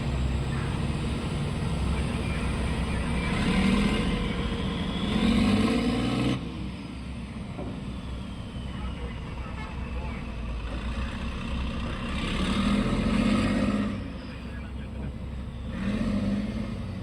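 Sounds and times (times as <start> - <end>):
excavator diesel engine revving: 0.0 - 17.0.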